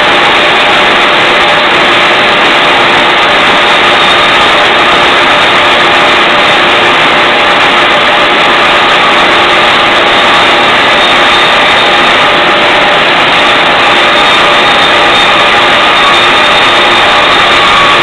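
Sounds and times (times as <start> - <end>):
band saw cutting wood: 1.2 - 18.0.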